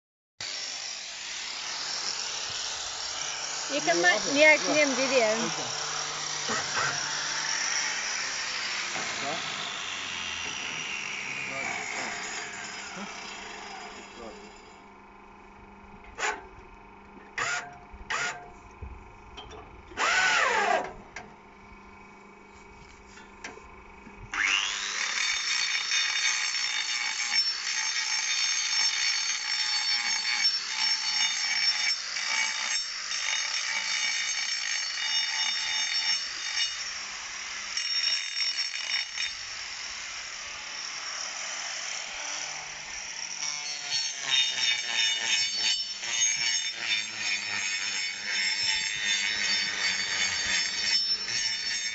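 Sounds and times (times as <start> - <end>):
angle grinder grinding: 0.4 - 14.9, 17.3 - 18.8, 19.9 - 21.0, 22.0 - 51.9.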